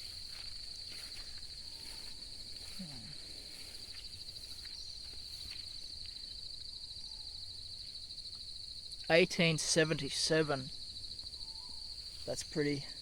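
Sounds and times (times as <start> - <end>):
insect trilling: 0.0 - 13.0
low background hiss: 0.0 - 13.0.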